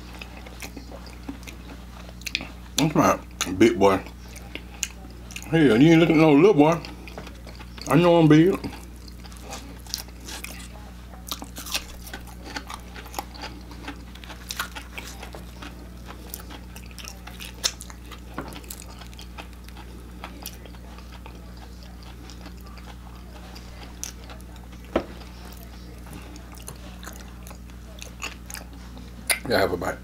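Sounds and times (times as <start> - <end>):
crunchy chewing: 0.0 - 29.5
steady low hum: 0.0 - 30.0.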